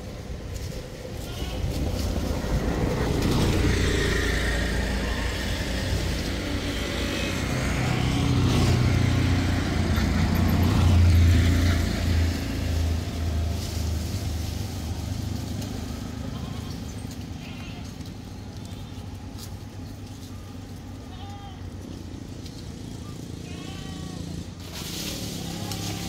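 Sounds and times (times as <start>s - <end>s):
vehicle engine passing by: 0.0s - 26.0s.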